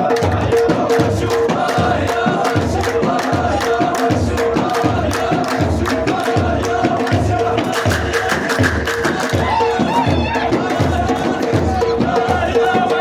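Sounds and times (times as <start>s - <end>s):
frame drum beat: 0.0s - 13.0s
group chanting: 0.0s - 13.0s.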